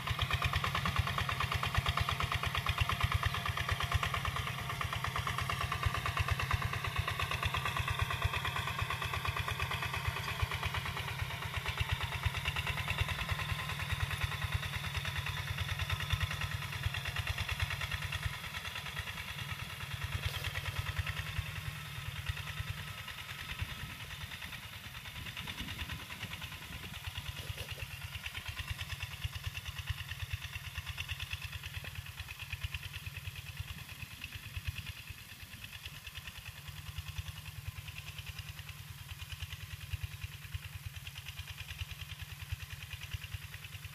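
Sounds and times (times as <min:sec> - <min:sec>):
diesel tractor engine chugging: 0:00.0 - 0:43.9.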